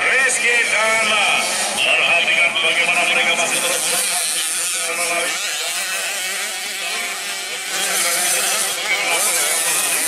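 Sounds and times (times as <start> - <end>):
motocross bikes revving: 0.0 - 10.0.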